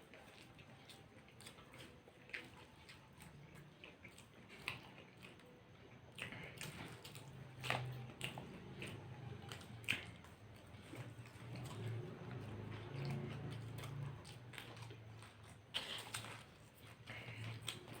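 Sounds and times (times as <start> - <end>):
people chewing crisp food: 0.0 - 18.0.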